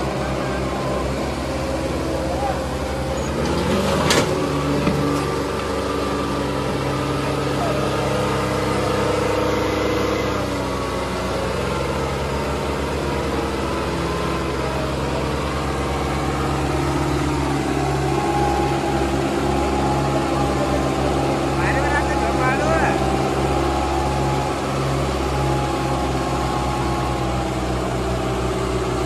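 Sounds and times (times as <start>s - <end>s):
diesel tractor engines at full throttle: 0.0s - 29.0s.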